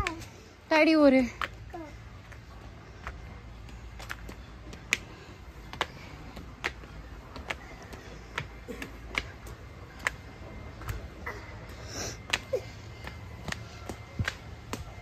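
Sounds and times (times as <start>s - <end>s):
footsteps on stone steps: 1.2s - 15.0s.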